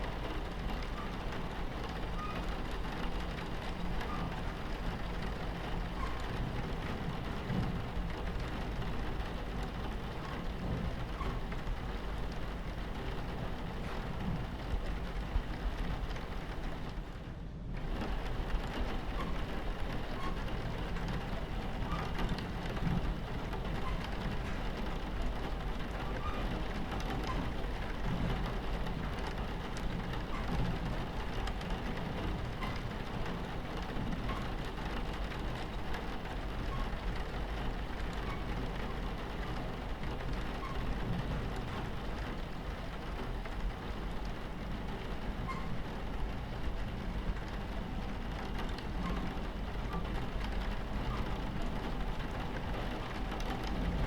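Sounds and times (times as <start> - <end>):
rain pattering on a window: 0.0 - 54.0
train rumbling on tracks: 0.0 - 54.0.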